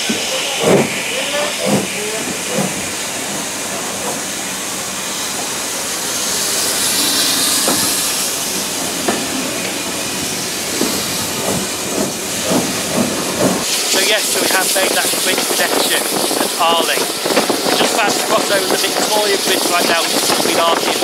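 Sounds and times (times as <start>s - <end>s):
train knocks: 0.0s - 4.5s, 6.3s - 21.0s
steam locomotive hissing: 0.0s - 21.0s.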